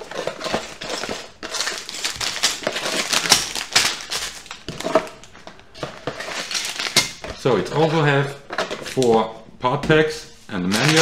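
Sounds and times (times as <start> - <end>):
plastic bags crinkling: 0.0 - 9.3, 10.5 - 11.0.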